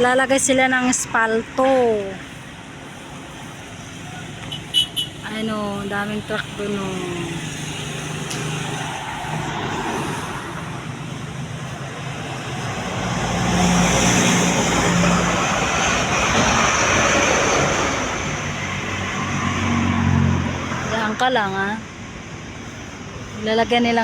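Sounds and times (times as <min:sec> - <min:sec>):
road noise of passing trucks: 0:00.0 - 0:24.0
truck engine: 0:00.0 - 0:24.0.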